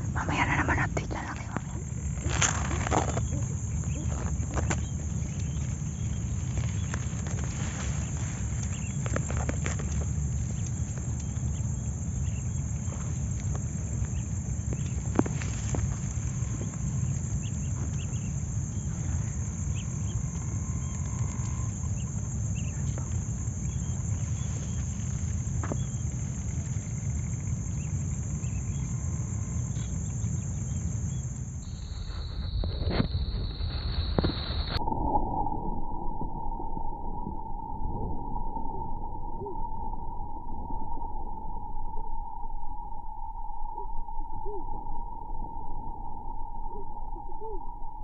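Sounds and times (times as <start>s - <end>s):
low rumble: 0.0s - 48.0s
steady high-pitched hum: 0.0s - 48.0s.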